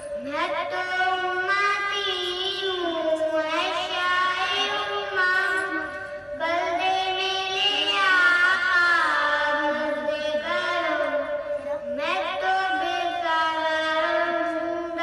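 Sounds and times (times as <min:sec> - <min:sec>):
child singing unaccompanied: 0:00.1 - 0:15.0.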